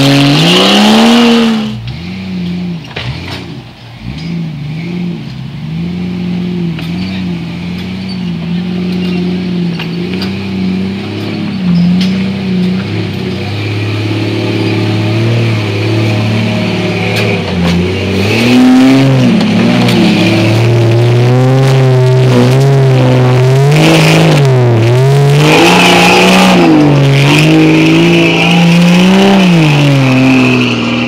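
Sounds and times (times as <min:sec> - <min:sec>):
engine revving hard: 0:00.0 - 0:31.0.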